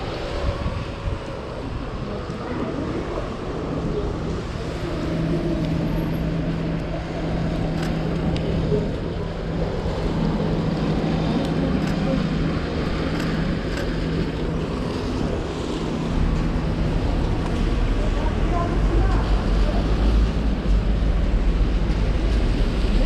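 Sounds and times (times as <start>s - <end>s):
low engine hum: 0.0s - 23.0s
tyres hissing on wet road: 0.0s - 23.0s
wind buffeting microphone: 0.0s - 23.0s.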